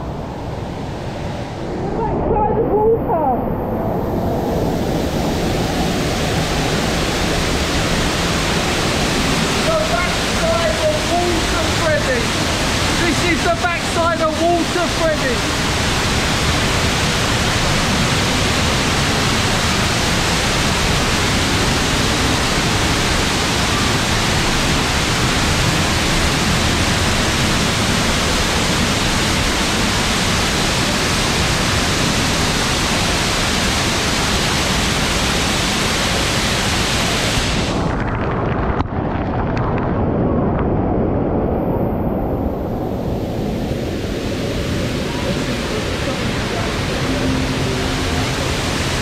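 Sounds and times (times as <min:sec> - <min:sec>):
rush of falling water: 0:00.2 - 0:40.6, 0:41.4 - 0:49.0.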